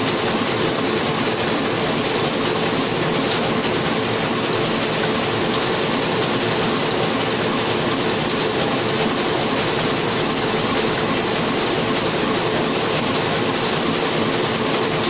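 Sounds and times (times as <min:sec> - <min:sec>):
printing press clattering: 0:00.0 - 0:15.0.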